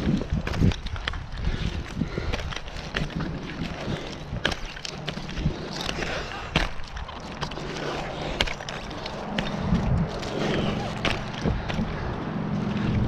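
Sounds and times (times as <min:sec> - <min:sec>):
wind buffeting microphone: 0:00.0 - 0:13.0
knocks and scrapes on trunk: 0:02.2 - 0:13.0.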